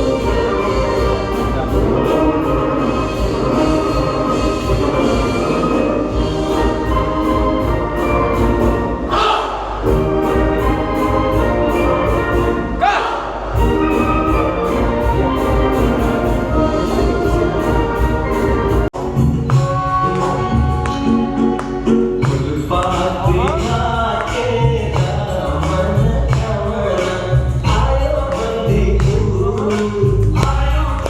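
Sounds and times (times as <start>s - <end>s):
music with orchestral chords: 0.0s - 9.2s, 9.8s - 12.8s, 13.6s - 31.0s.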